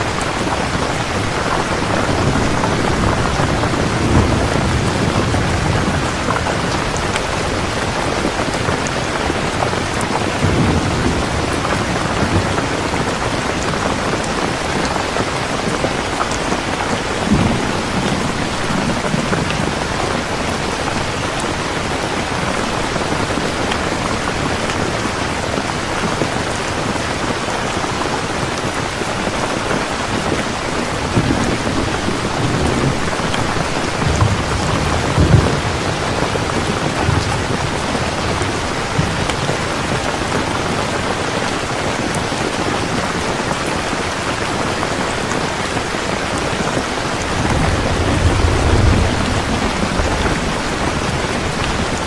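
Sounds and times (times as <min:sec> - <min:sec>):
thunder rumbling: 0:00.0 - 0:44.6, 0:46.0 - 0:52.0
heavy rain falling: 0:00.0 - 0:52.0.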